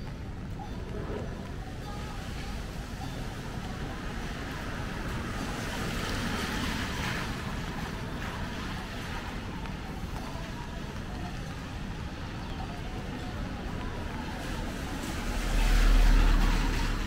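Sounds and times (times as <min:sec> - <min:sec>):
traffic rushing: 0:00.0 - 0:17.0
tyres hissing on wet road: 0:01.1 - 0:17.0.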